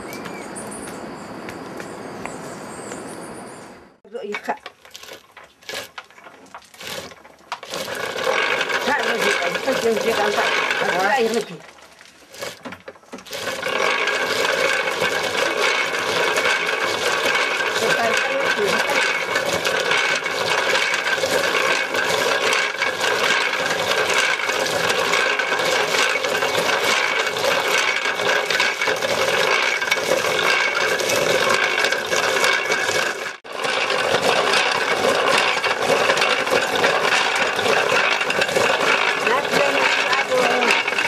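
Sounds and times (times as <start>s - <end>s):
coffee cherries clattering in drum: 4.2s - 41.0s.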